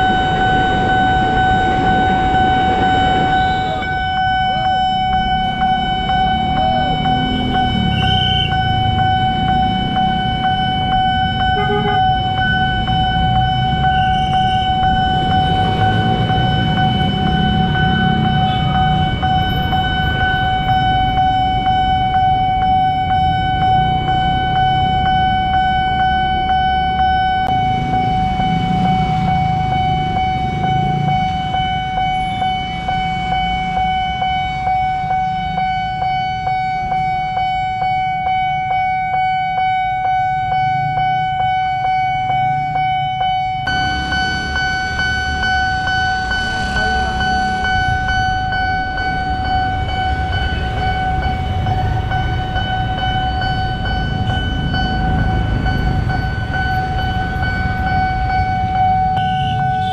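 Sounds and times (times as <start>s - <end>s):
level crossing bell ringing: 0.0s - 59.9s.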